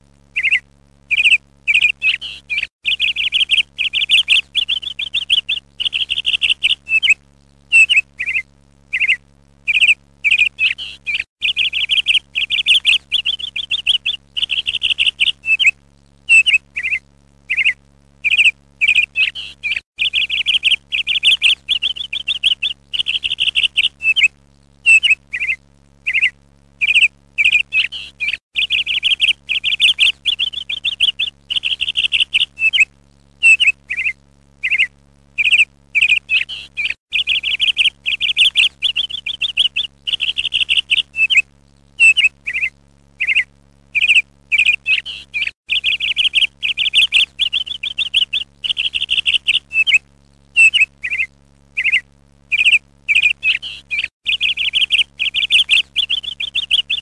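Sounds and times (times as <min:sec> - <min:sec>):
faint low hum: 0:00.0 - 0:57.0
songbird trilling and chirping: 0:00.4 - 0:15.7, 0:16.3 - 0:24.3, 0:24.9 - 0:32.8, 0:33.4 - 0:41.4, 0:42.0 - 0:50.0, 0:50.6 - 0:57.0.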